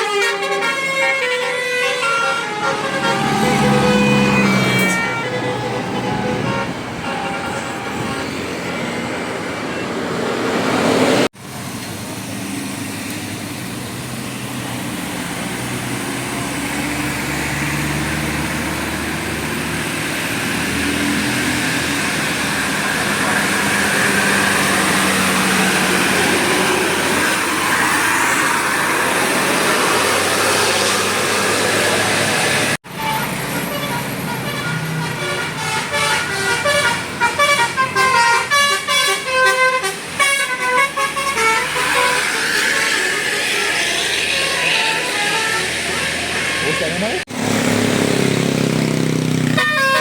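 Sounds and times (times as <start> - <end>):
roadside traffic: 0.0 - 50.0
bus engine running by: 0.8 - 50.0.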